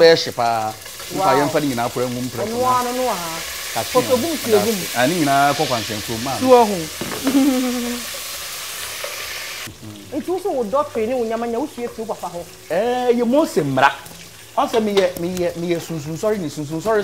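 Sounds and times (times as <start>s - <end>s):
people talking: 0.0s - 8.0s, 9.8s - 14.0s, 14.6s - 17.0s
food sizzling in a pot: 0.0s - 17.0s.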